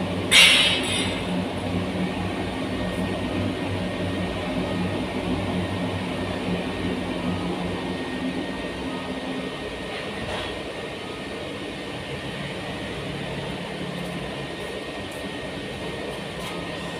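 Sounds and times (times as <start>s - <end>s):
furnace burner rushing: 0.0s - 13.8s.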